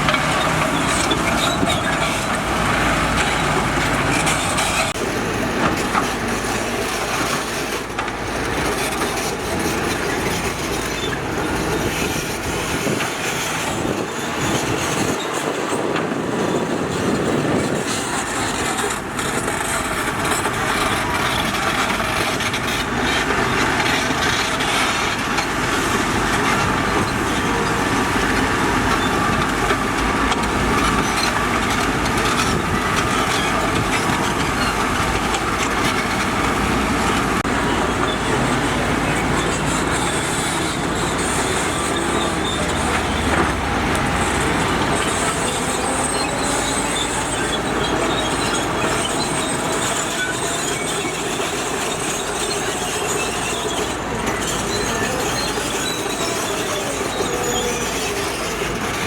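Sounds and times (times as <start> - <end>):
diesel engine running: 0.0 - 59.0
tracks rattling and clanking: 0.0 - 59.0.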